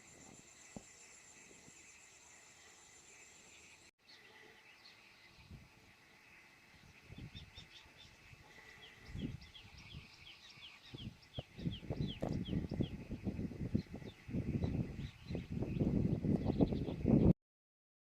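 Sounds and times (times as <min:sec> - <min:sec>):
weaver birds chirping: 0:00.0 - 0:17.3.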